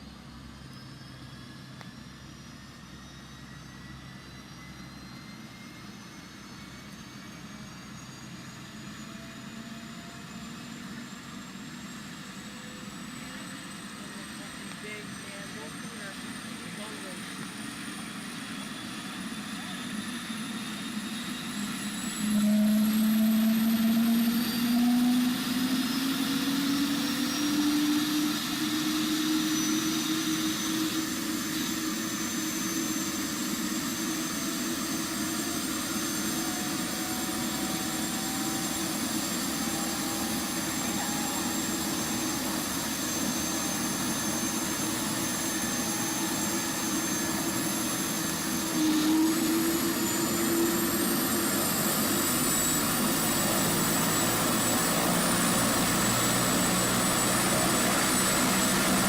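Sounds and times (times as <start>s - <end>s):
faint high whine: 0.0s - 59.0s.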